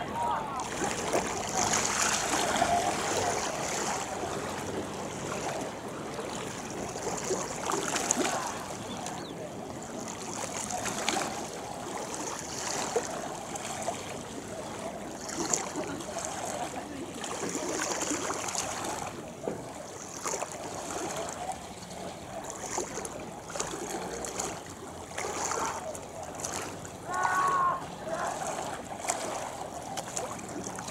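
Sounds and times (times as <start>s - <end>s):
river water lapping and splashing: 0.0s - 30.9s.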